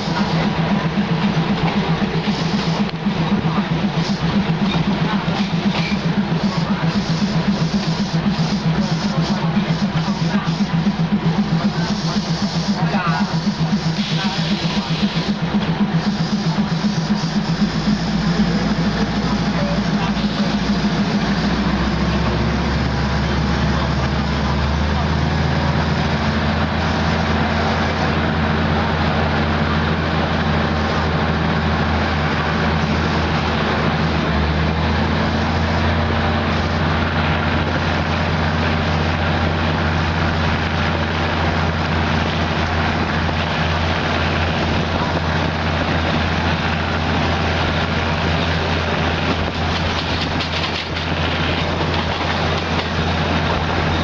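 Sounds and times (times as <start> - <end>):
train engine drone: 0.0 - 54.0
wheels rushing on rails: 0.0 - 54.0.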